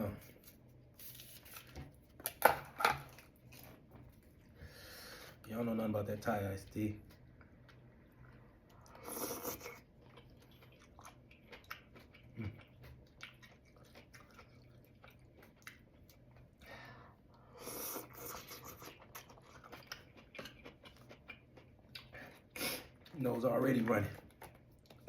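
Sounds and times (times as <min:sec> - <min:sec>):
person chewing food: 0:00.3 - 0:05.5, 0:06.6 - 0:23.2, 0:24.0 - 0:25.0.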